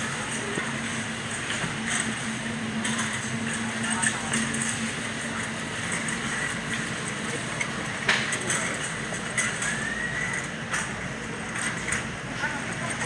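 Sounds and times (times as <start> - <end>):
warehouse store background noise: 0.0 - 13.0.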